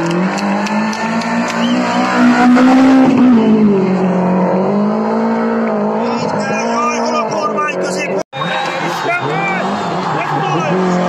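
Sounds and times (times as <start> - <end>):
rally car engine running hard: 0.0 - 11.0.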